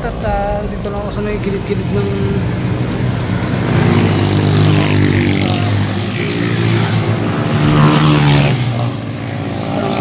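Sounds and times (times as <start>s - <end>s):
traffic engines running: 0.0s - 10.0s
vehicle passing by: 1.4s - 10.0s.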